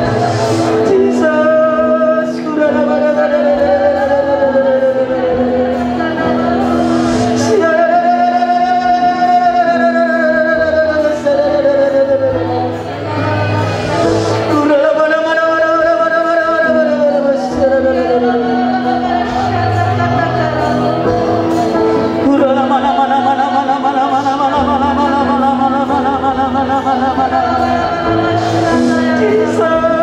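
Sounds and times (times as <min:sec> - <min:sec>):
group singing worship song: 0:00.0 - 0:30.0
keyboard accompaniment: 0:00.0 - 0:30.0.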